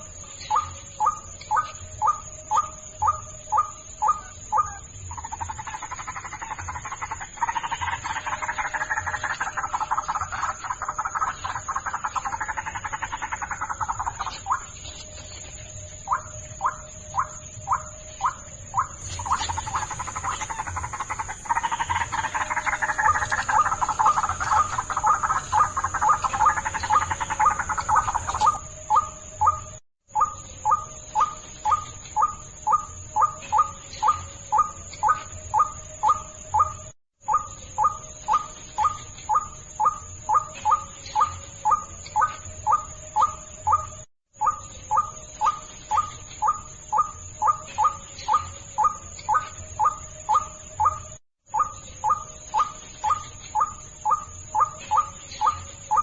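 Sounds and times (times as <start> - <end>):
chorus of overlapping bird calls: 0.0 - 56.0
bird calls repeated: 0.4 - 14.8, 16.1 - 56.0.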